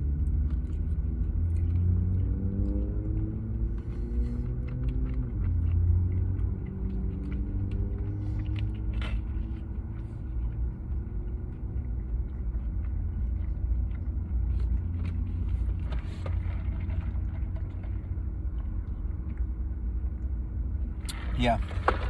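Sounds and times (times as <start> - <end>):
faint eating clicks: 0.0 - 21.4.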